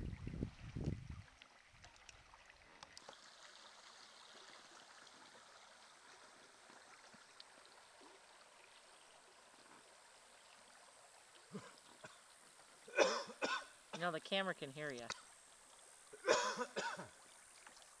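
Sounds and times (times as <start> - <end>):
river water flowing: 1.1 - 18.0.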